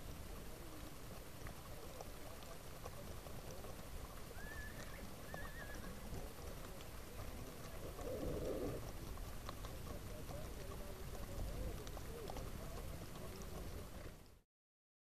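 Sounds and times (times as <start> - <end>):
hooves on dirt and grass: 0.0 - 14.4.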